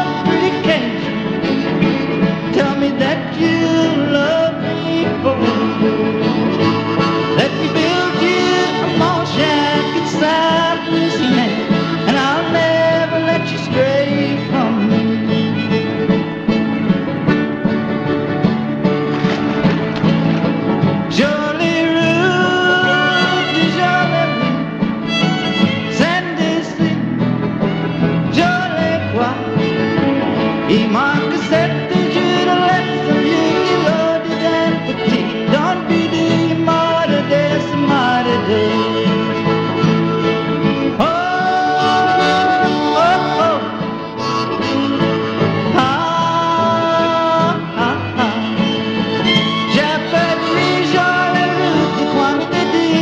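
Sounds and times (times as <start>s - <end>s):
country song with solo singer: 0.0s - 53.0s.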